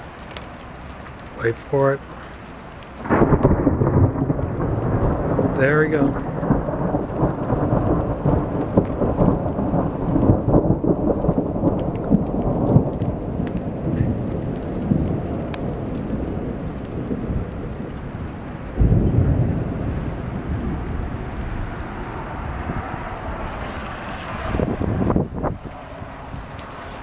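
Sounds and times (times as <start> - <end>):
rain and sleet falling: 0.0 - 27.0
thunder rumbling: 0.0 - 27.0.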